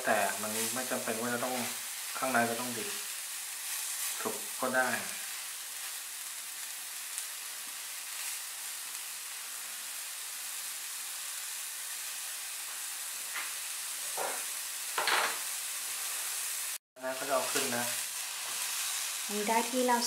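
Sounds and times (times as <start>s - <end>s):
fish searing in a frying pan: 0.0s - 20.0s.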